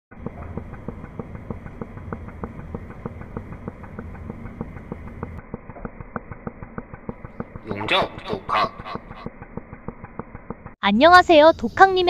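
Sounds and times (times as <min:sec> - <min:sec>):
welding arc humming and ticking: 0:00.2 - 0:10.8.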